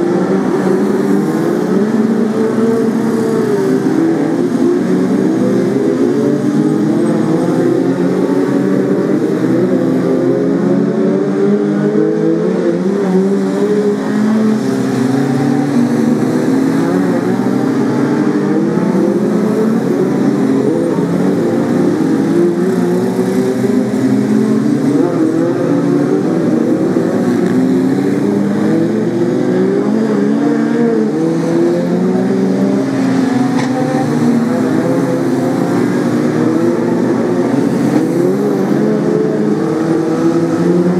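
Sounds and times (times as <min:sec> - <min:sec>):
racing car engines: 0:00.0 - 0:40.9.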